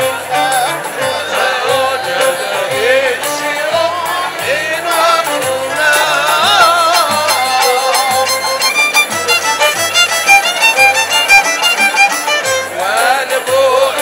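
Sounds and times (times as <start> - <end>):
violins playing melody: 0.0 - 14.0.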